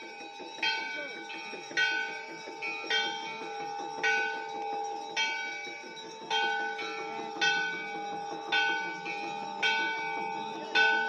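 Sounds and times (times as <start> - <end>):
large temple bell ringing: 0.0 - 11.0.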